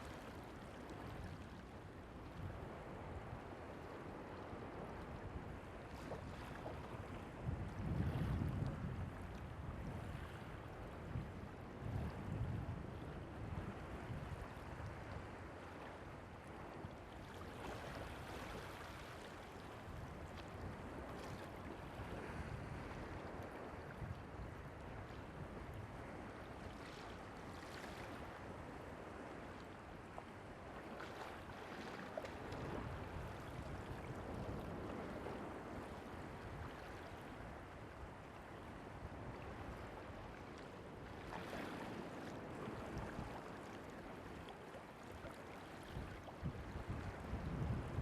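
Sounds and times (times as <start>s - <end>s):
waves washing onto beach: 0.0s - 48.0s.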